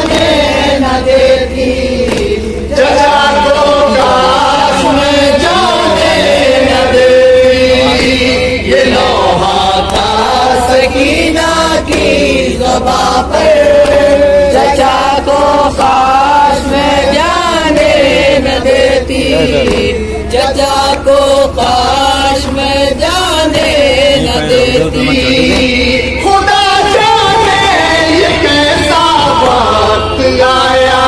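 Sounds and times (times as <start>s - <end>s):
men chanting through loudspeaker: 0.0s - 31.0s
voices joining chant: 0.0s - 31.0s.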